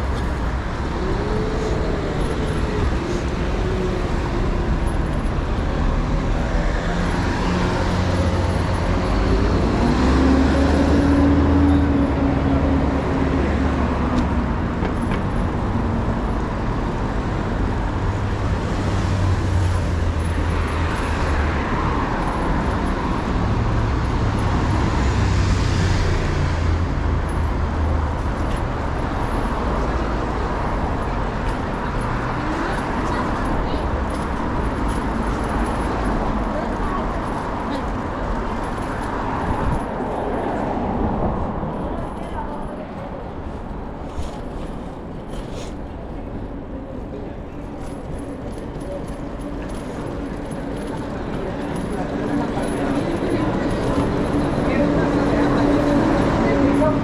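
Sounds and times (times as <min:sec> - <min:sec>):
traffic rumble: 0:00.0 - 0:57.0
vehicles passing: 0:00.0 - 0:57.0.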